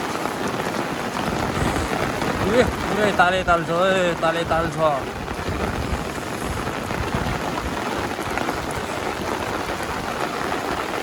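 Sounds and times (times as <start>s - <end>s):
steady rain pattering: 0.0s - 11.0s.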